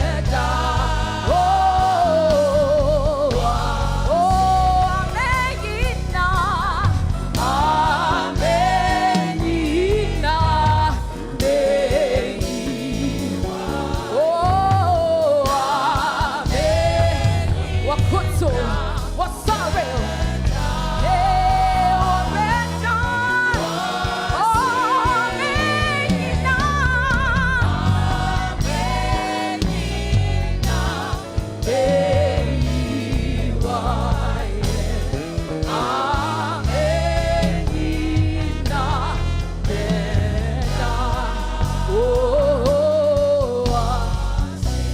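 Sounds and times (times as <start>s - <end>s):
band accompaniment with bass: 0.0s - 44.9s
choir singing gospel: 0.0s - 44.9s.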